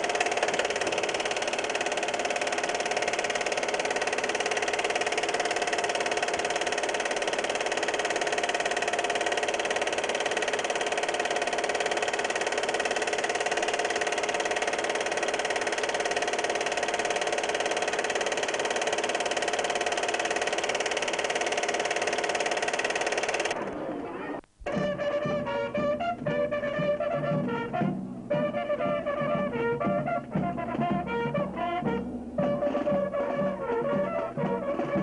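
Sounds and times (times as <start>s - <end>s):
film projector running: 0.0s - 35.0s.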